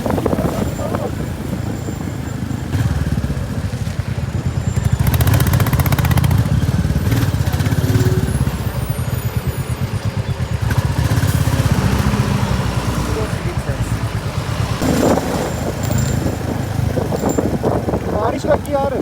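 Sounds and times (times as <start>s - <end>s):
motorcycle engine running: 0.0s - 19.0s
riding wind rush: 0.0s - 19.0s.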